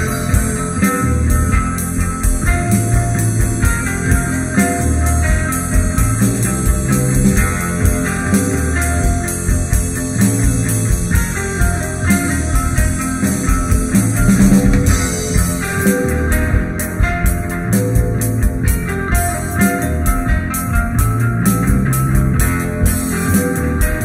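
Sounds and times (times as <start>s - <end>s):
psychedelic rock band playing: 0.0s - 24.0s.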